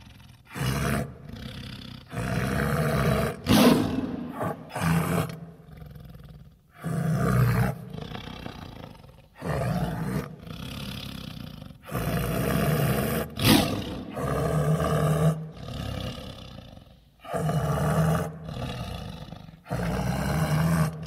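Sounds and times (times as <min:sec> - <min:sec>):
tiger growling: 0:00.0 - 0:21.0.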